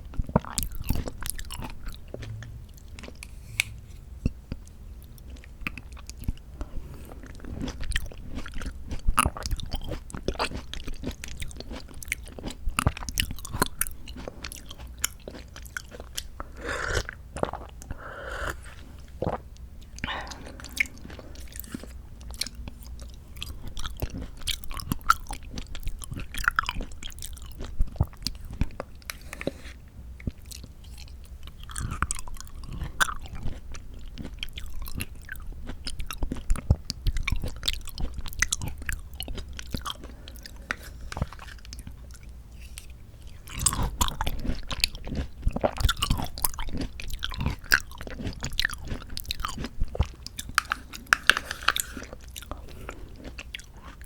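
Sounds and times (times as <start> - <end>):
chewing and biting fruit: 0.0 - 54.0.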